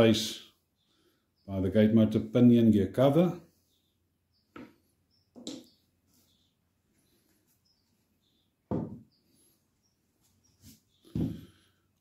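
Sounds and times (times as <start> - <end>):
faint bird chirps: 0.0 - 1.9, 3.4 - 12.0.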